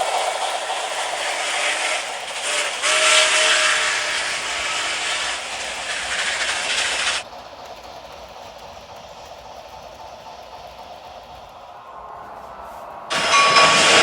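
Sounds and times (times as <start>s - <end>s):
model locomotive hiss: 0.0s - 14.0s
model locomotive running sound: 0.0s - 14.0s.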